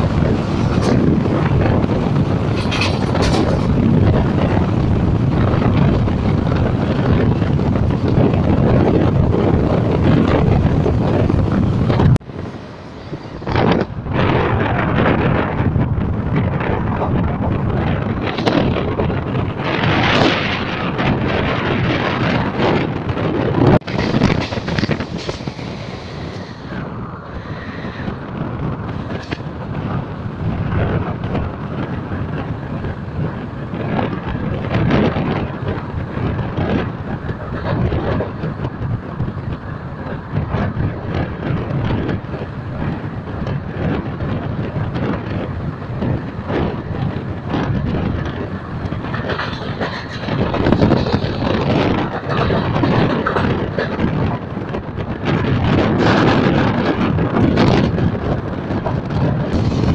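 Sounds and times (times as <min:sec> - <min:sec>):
train wheels clattering over rails: 0:00.0 - 0:59.9
wind buffeting microphone: 0:00.0 - 0:59.9.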